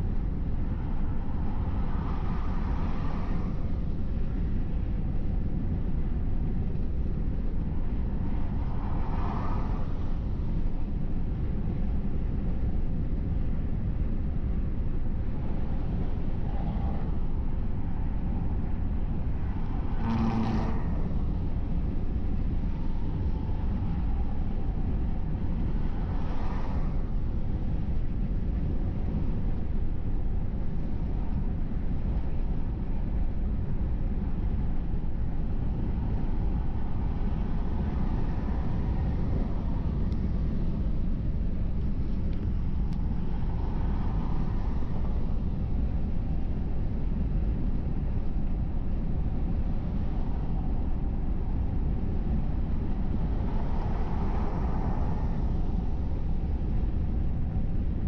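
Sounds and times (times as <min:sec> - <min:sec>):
car driving on freeway: 0:00.0 - 0:58.0.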